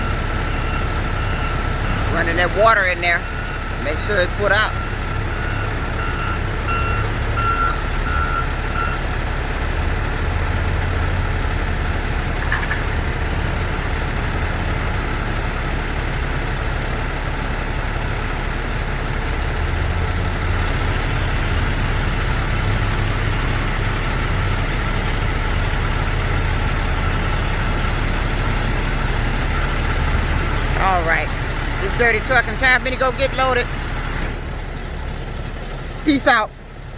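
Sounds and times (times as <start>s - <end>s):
reversing alarm beeping: 0.0s - 16.6s, 19.5s - 34.3s
truck engine idling: 0.0s - 36.9s.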